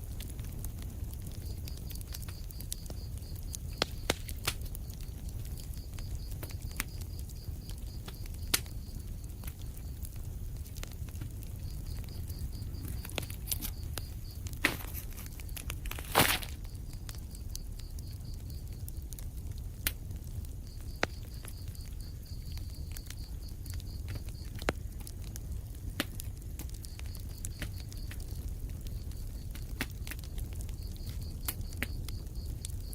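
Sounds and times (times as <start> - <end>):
fire crackling: 0.0 - 32.9
sharp pops of fire: 0.0 - 32.9.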